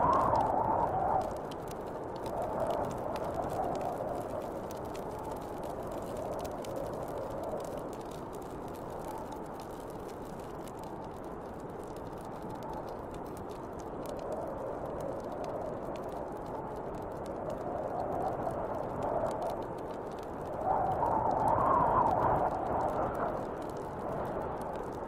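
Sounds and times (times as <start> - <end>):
wind blowing: 0.0 - 9.5, 13.9 - 25.0
wood fire crackling: 0.0 - 25.0.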